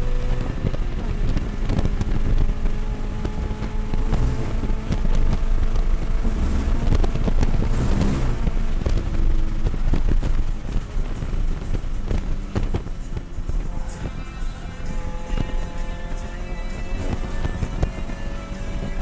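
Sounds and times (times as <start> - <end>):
car engine at full throttle: 0.0 - 19.0
wind noise in cabin: 0.0 - 19.0.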